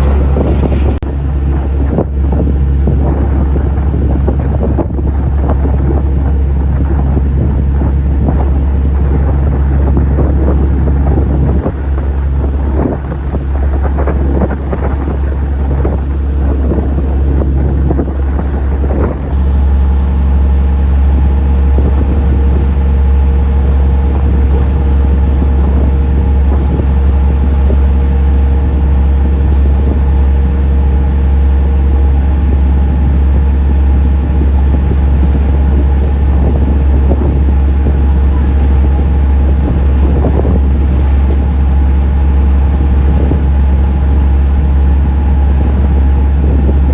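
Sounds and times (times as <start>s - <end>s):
ferry engines droning: 0.0s - 46.9s
wind on microphone: 0.0s - 46.9s.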